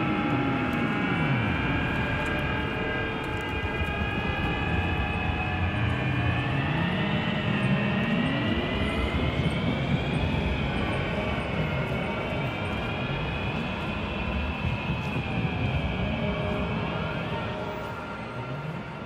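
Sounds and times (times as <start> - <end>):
engine-like rumble: 0.0 - 19.0.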